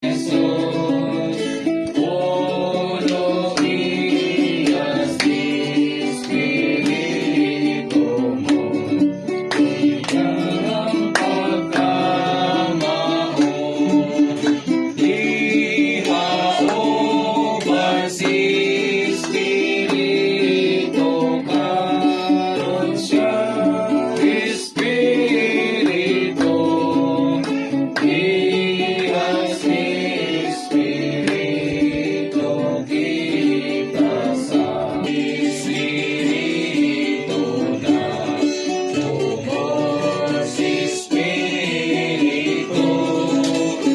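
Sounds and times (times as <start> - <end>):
several voices singing: 0.0 - 43.9
strummed guitar: 0.0 - 43.9.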